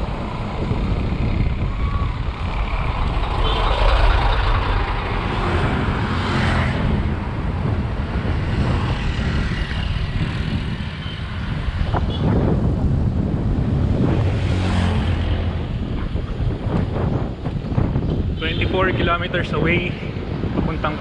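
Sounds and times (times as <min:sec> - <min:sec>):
motor vehicle engine hum: 0:00.0 - 0:19.0
wind on microphone: 0:00.0 - 0:21.0.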